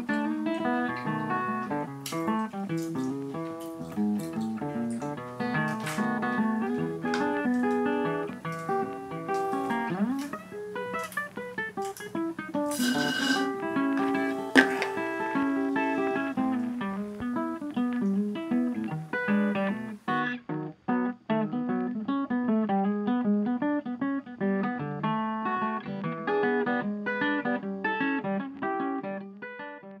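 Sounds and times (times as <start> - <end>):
plucked acoustic guitar: 0.0 - 30.0.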